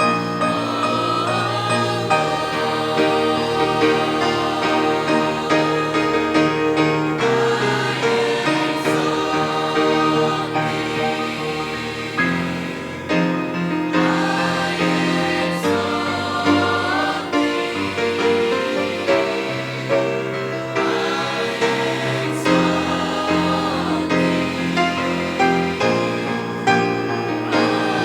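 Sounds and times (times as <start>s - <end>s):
choir singing gospel: 0.0s - 28.0s
instrumental accompaniment: 0.0s - 28.0s.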